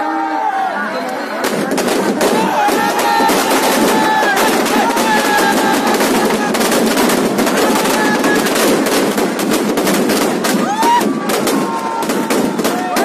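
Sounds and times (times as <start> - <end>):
firecrackers banging rapidly: 1.4 - 13.0.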